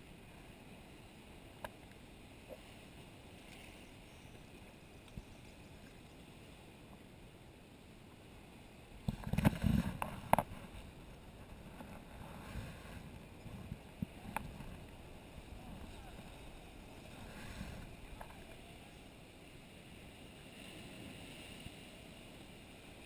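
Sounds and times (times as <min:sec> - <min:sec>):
water lapping: 0:00.0 - 0:23.0
paddle splashing: 0:01.4 - 0:07.1, 0:09.0 - 0:23.0.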